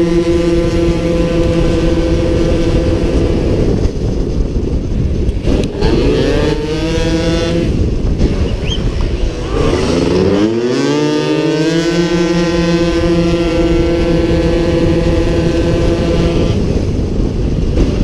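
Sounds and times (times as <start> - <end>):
scooter engine at high revs: 0.0 - 18.0.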